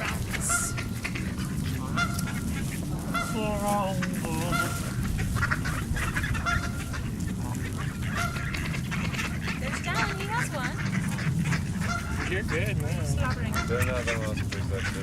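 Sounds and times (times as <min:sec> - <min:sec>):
birds calling: 0:00.0 - 0:15.0
steady low rumble: 0:00.0 - 0:15.0.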